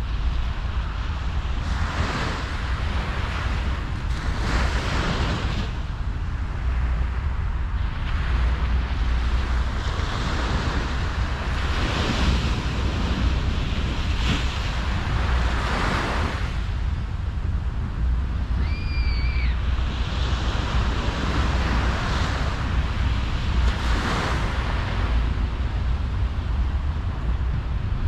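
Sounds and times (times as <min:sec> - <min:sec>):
ocean surf washing up beach: 0:00.0 - 0:28.0
wind rumble on microphone: 0:00.0 - 0:28.0.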